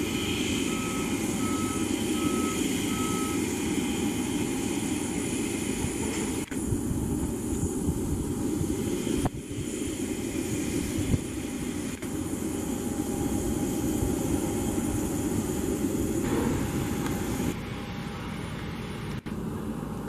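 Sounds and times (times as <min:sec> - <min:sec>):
jet engines rumbling with whine: 0:00.0 - 0:20.0.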